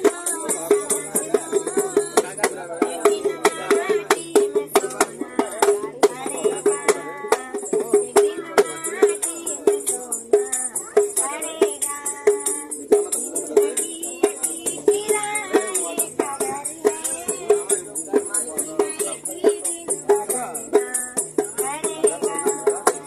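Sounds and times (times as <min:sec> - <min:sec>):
hand drum beating: 0:00.0 - 0:23.0
woman singing: 0:00.0 - 0:23.0.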